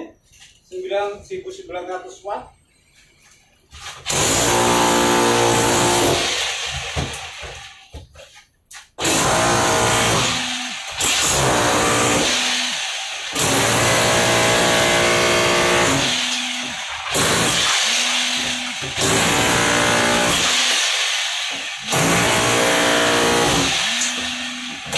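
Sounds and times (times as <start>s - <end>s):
rotary hammer chiselling wall: 4.0s - 8.4s, 9.0s - 24.9s.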